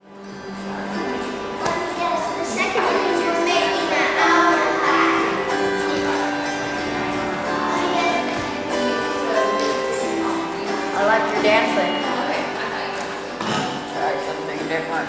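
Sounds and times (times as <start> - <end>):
autoharp strummed: 0.0 - 15.0.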